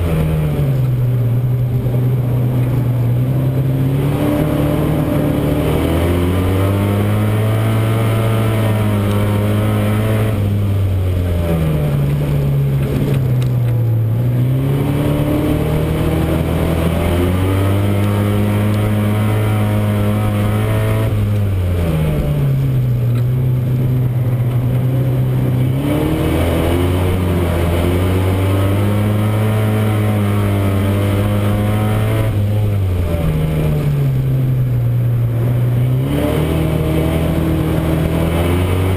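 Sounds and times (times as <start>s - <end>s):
racing car engine: 0.0s - 38.9s.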